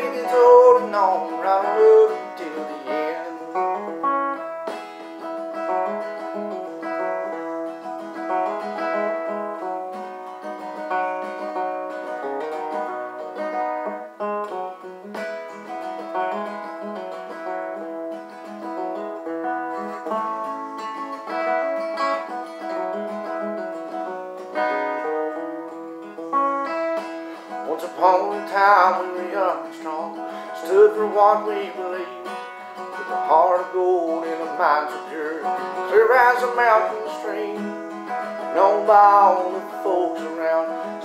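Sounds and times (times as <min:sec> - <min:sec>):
acoustic guitar chords: 0:00.0 - 0:41.0.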